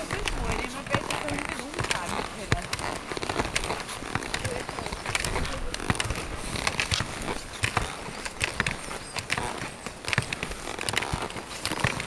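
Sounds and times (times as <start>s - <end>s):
skis and boots clicking in snow: 0.0s - 12.0s.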